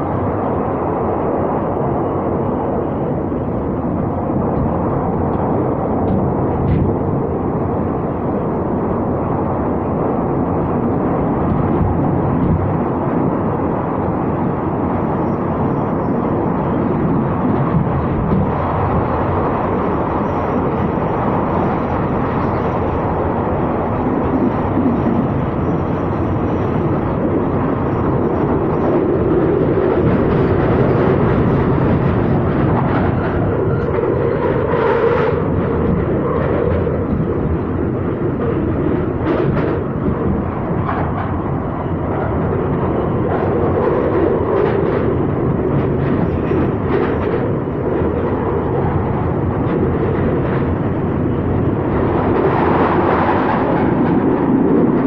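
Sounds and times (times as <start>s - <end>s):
train rumbling through tunnel: 0.0s - 55.0s.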